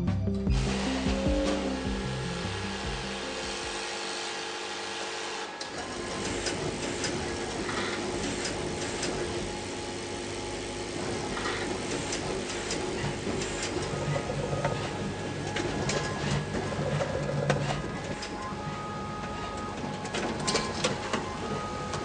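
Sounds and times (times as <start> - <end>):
machine hum: 0.5 - 22.0.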